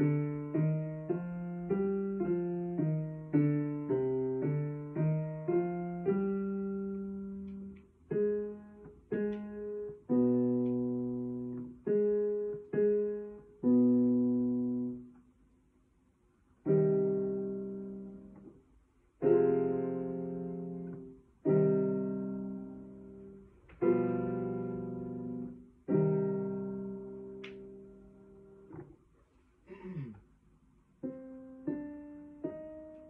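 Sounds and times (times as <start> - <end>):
digital piano chords: 0.0 - 15.2, 16.6 - 18.6, 19.2 - 29.0, 31.0 - 33.0.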